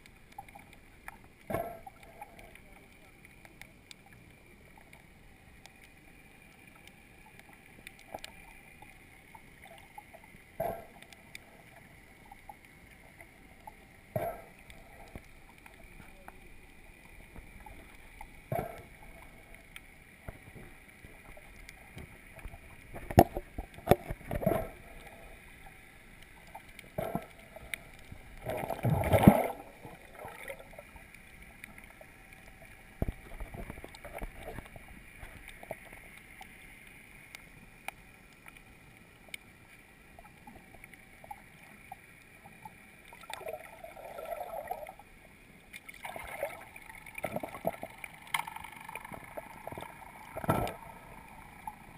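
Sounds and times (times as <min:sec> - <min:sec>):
rushing bubbling water underwater: 0:00.0 - 0:37.3, 0:40.0 - 0:51.9
low steady hiss: 0:00.0 - 0:51.9.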